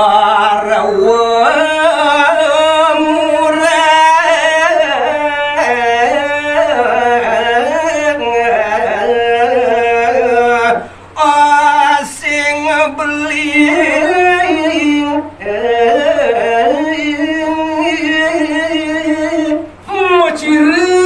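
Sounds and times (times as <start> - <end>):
faint electrical hum: 0.0 - 21.0
man singing unaccompanied: 0.0 - 21.0.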